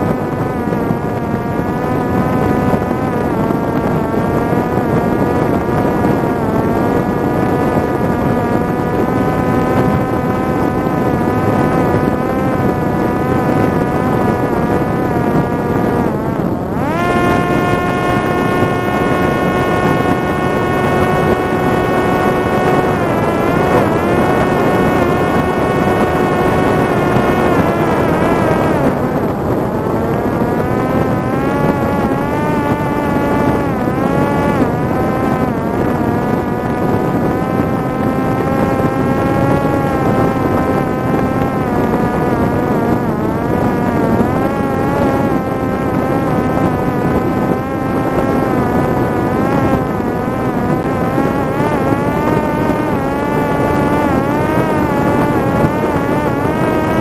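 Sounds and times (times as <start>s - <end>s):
drone propeller whining: 0.0s - 57.0s.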